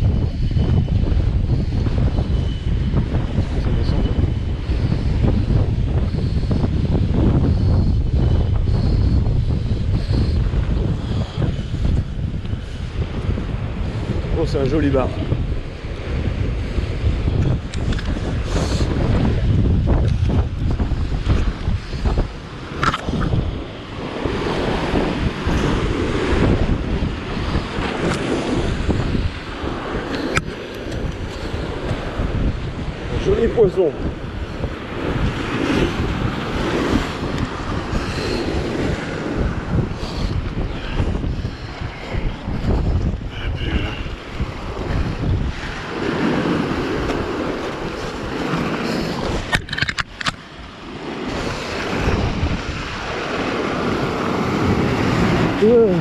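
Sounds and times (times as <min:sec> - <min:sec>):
wind buffeting microphone: 0:00.0 - 0:56.0
sea waves breaking over rocks: 0:00.1 - 0:56.0.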